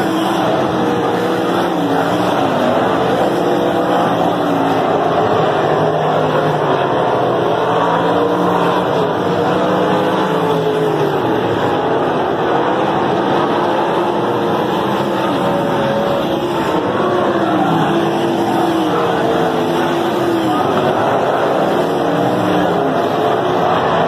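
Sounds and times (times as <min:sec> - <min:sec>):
race car engines roaring: 0:00.0 - 0:24.0.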